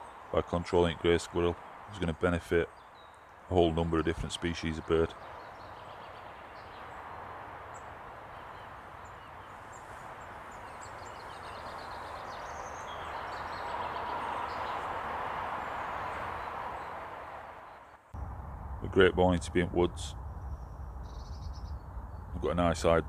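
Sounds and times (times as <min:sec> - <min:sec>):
small birds calling: 0:00.0 - 0:18.2, 0:19.7 - 0:23.0.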